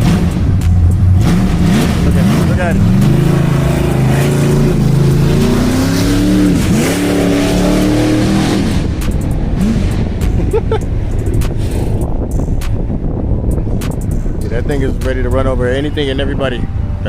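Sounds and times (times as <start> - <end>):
engine revving: 0.0 - 16.4.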